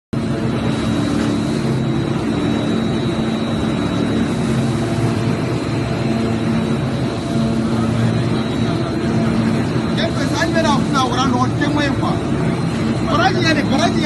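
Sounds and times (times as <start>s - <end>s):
machine droning: 0.2s - 14.0s.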